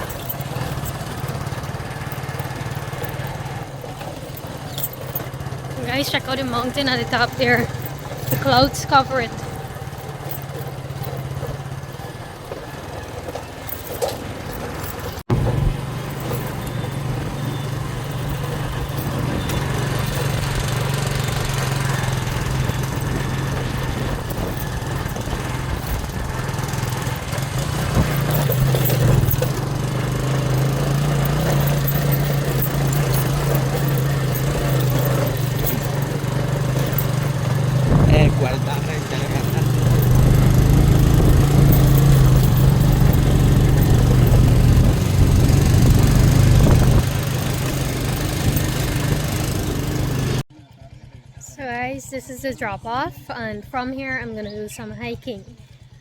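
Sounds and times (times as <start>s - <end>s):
wind and road noise: 0.0s - 50.4s
motorcycle engine running: 0.0s - 56.0s.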